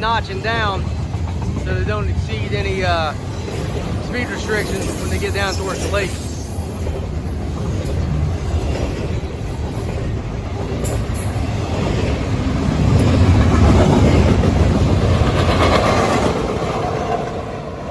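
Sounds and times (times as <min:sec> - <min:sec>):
freight train rolling past: 0:00.0 - 0:17.9.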